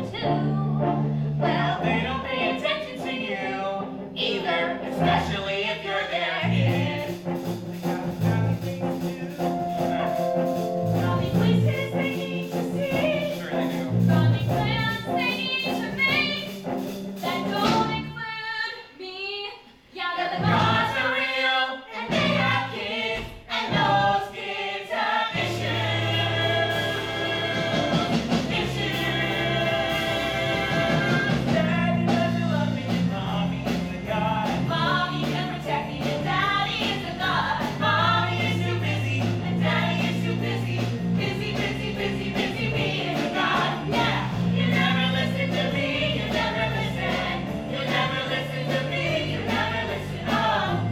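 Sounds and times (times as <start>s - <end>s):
singers with musical accompaniment: 0.0s - 50.9s.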